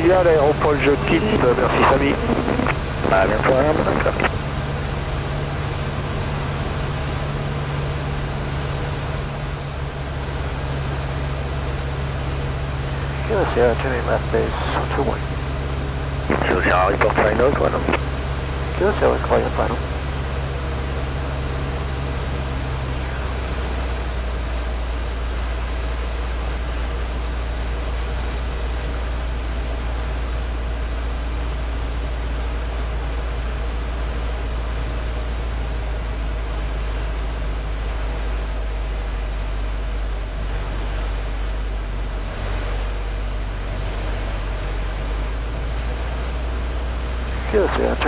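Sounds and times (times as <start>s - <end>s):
light aircraft engine droning: 0.0s - 48.0s.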